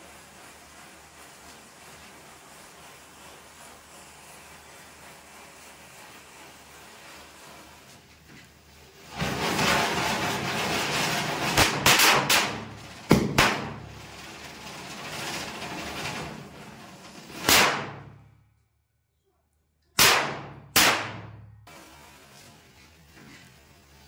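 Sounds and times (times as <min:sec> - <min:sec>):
firecrackers banging: 0:00.0 - 0:18.4, 0:20.0 - 0:23.9
firework spinner fizzing: 0:00.0 - 0:18.4, 0:20.0 - 0:24.0.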